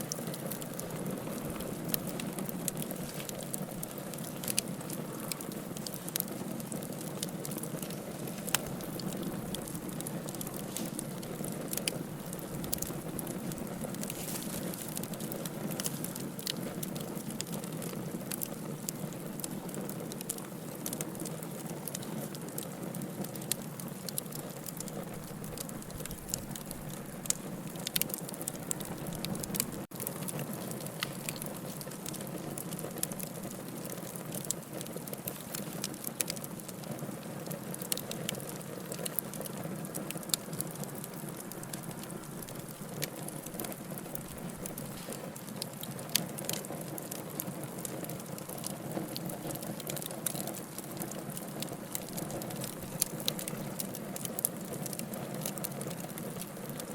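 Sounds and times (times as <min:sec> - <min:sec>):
fire crackling and popping: 0:00.0 - 0:56.9
low rush of flames: 0:00.0 - 0:56.9.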